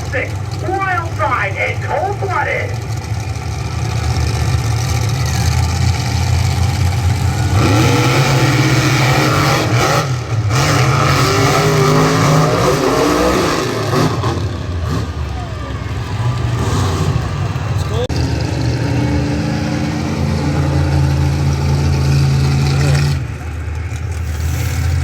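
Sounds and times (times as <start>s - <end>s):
monster truck engines revving: 0.0s - 25.0s.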